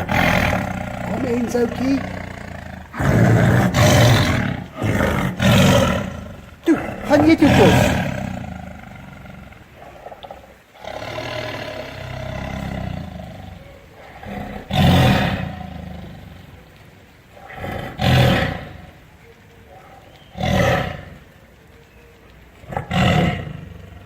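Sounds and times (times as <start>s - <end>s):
big cat rasping growl: 0.0s - 19.1s, 22.6s - 24.0s
big cat deep grunting calls: 0.0s - 21.8s, 22.6s - 24.0s.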